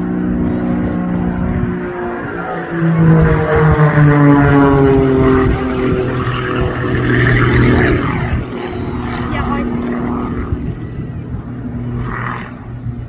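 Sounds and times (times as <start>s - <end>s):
propeller plane fly-by: 0.0s - 13.0s.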